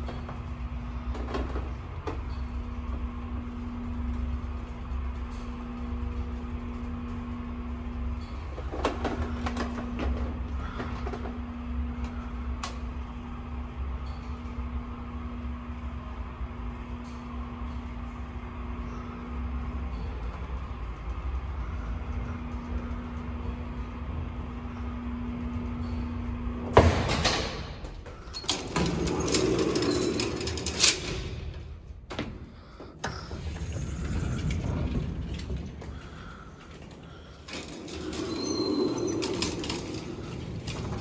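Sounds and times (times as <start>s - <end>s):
elevator hum and rumble: 0.0s - 41.0s.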